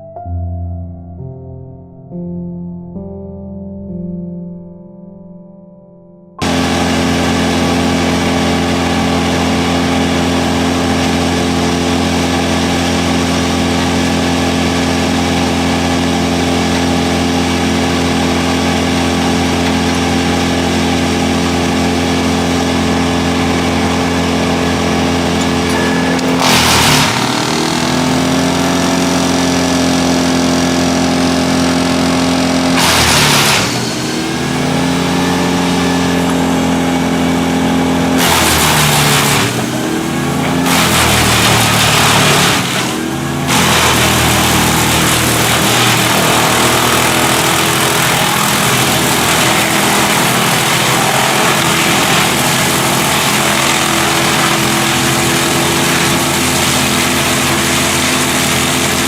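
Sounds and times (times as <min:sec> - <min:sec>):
wood chipper engine running: 0:06.4 - 0:59.0.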